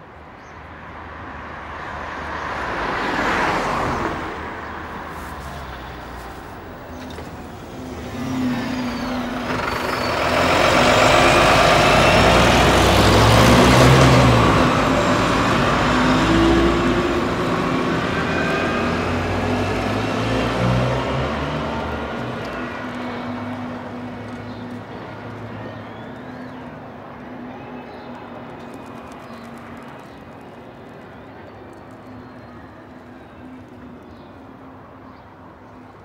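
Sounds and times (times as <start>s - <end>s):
lorry diesel engine passing: 2.6s - 35.9s.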